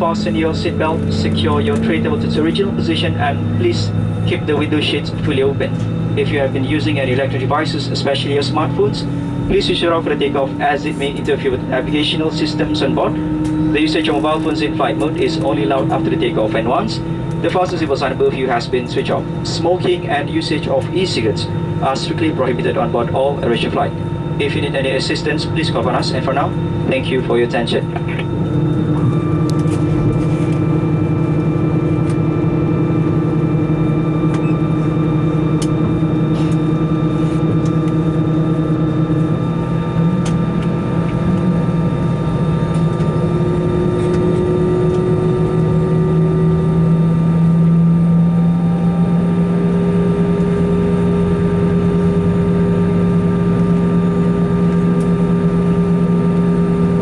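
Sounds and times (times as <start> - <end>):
aircraft cabin drone: 0.0 - 57.0.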